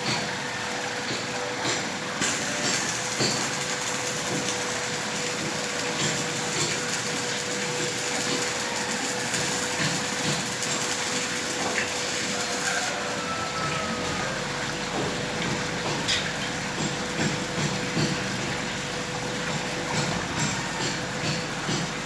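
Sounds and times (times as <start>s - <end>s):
welding arc crackling hiss: 2.1s - 14.6s, 16.4s - 22.0s.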